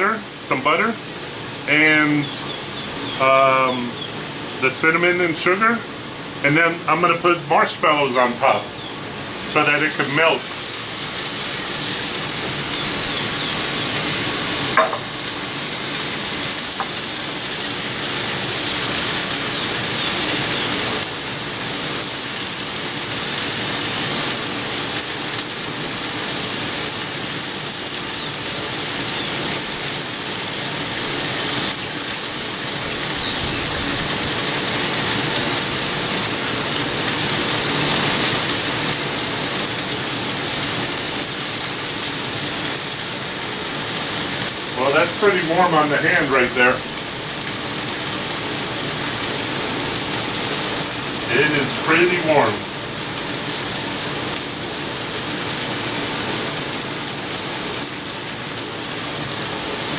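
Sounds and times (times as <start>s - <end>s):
pork chops sizzling on griddle: 0.0s - 59.9s.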